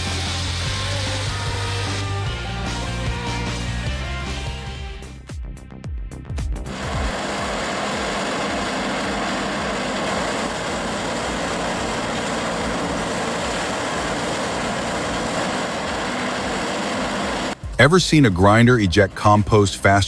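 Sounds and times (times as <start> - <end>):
wood-processing machine running: 0.0 - 3.8, 6.7 - 19.7.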